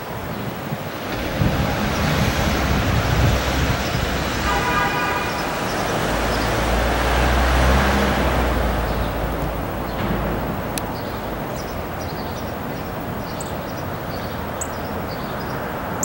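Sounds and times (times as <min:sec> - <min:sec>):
outdoor rushing noise: 0:00.0 - 0:16.0
wind buffeting microphone: 0:00.0 - 0:16.0.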